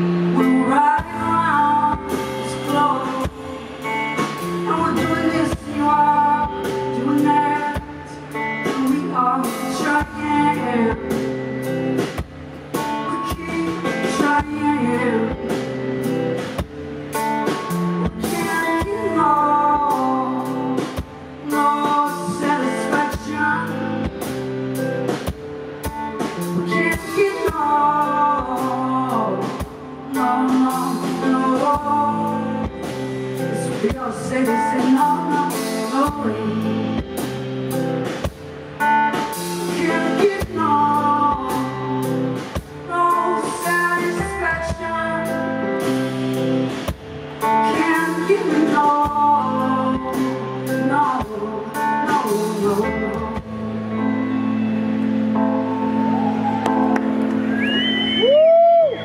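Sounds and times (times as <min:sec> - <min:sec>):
woman singing: 0:00.0 - 0:16.5, 0:17.1 - 0:25.2, 0:26.2 - 0:37.4, 0:38.8 - 0:46.8, 0:47.4 - 0:54.7
drum kit beat: 0:00.0 - 0:19.2, 0:19.8 - 0:53.6
electric guitar: 0:00.0 - 0:59.0.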